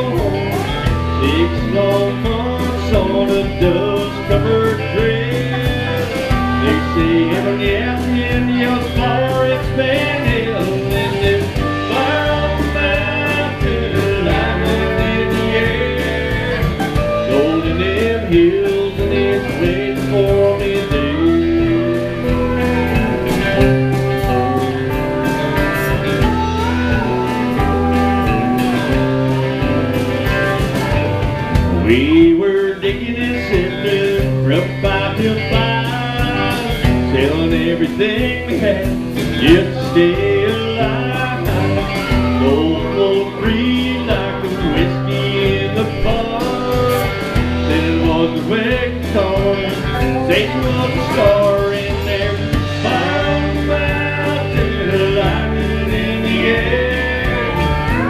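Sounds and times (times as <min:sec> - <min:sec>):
person singing: 0:00.0 - 0:30.9, 0:31.6 - 0:58.0
bass line: 0:00.0 - 0:58.0
electric guitar: 0:00.0 - 0:58.0
pedal steel guitar: 0:00.0 - 0:58.0.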